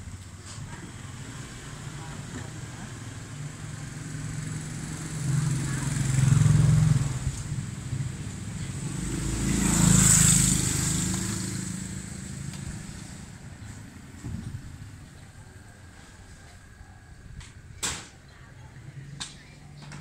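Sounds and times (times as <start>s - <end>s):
vehicles passing: 0.0s - 20.0s.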